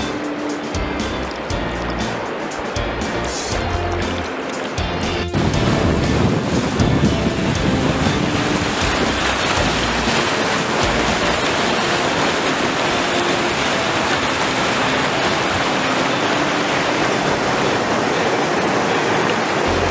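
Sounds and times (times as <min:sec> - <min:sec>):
river water rushing through rapids: 0:00.0 - 0:19.9.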